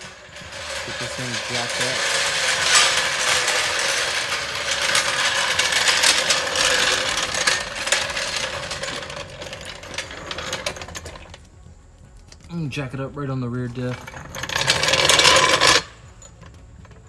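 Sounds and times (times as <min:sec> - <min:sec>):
car jack rattling and clicking: 0:00.0 - 0:11.4, 0:13.9 - 0:17.0.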